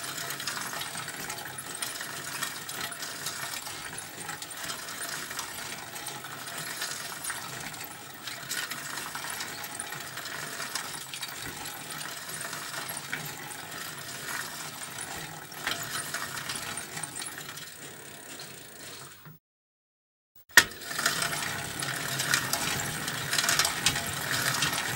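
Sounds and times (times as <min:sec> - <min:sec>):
bicycle chain rattling and ticking: 0:00.0 - 0:19.1, 0:20.8 - 0:24.9
bicycle tyres rolling: 0:00.0 - 0:19.3, 0:20.8 - 0:24.9.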